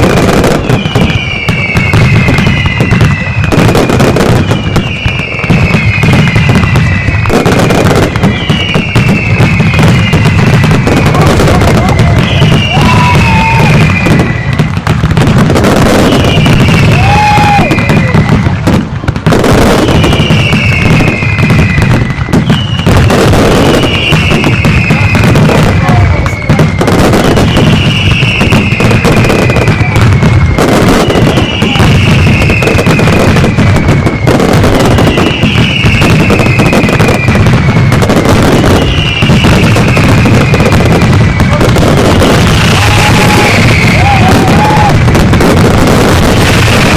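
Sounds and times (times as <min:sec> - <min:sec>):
fireworks crackling and banging: 0:00.0 - 0:46.9.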